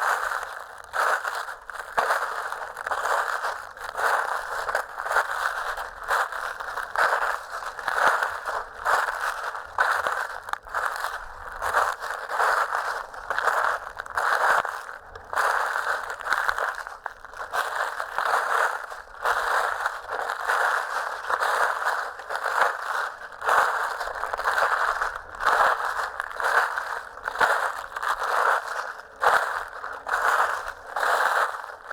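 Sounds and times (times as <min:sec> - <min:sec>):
footsteps crunching dry leaves: 0:00.1 - 0:31.9.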